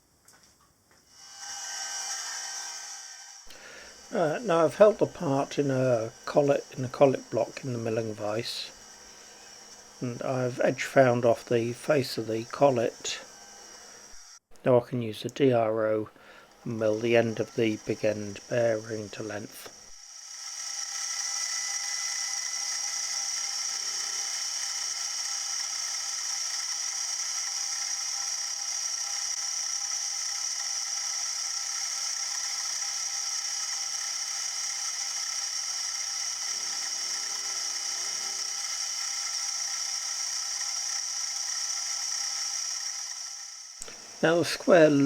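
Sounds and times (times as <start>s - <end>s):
milling machine whining: 1.1s - 45.0s.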